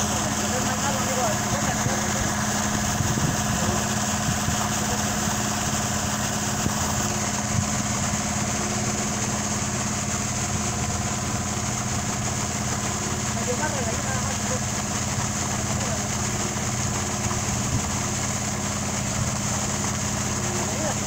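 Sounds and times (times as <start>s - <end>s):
engine running steadily: 0.0s - 21.0s
water gushing from pipe: 0.0s - 21.0s.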